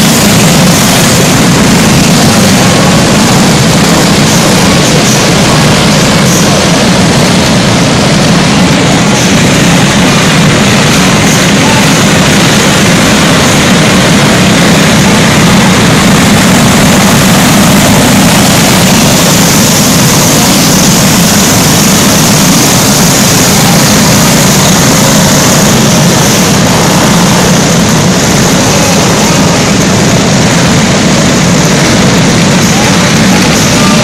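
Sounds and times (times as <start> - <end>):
go-kart engines droning: 0.0 - 34.0.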